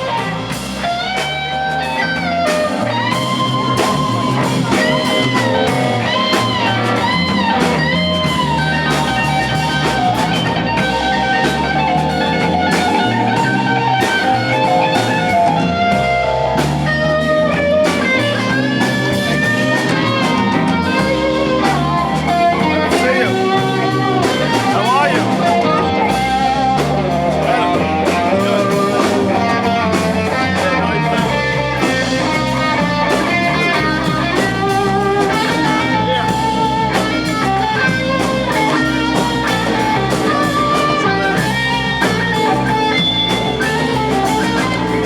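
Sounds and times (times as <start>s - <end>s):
blues-rock band playing: 0.0s - 45.0s
electric guitar solo: 0.0s - 45.0s.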